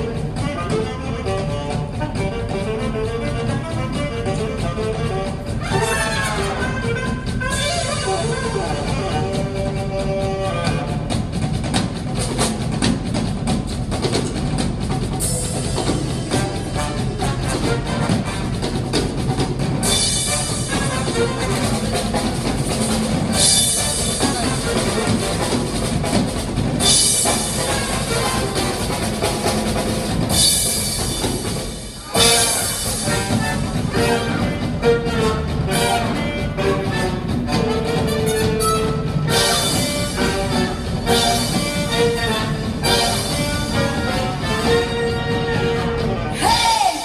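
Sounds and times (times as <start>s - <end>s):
band music with drum kit: 0.0s - 47.0s.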